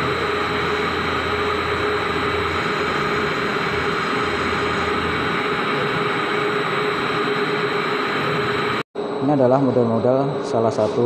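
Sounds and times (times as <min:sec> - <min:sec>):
lathe machining metal with whine: 0:00.0 - 0:11.0
low hum: 0:00.0 - 0:11.0.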